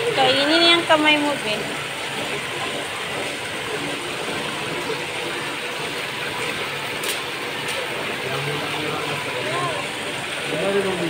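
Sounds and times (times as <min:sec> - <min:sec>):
waterfall splashing into pond: 0:00.0 - 0:11.0.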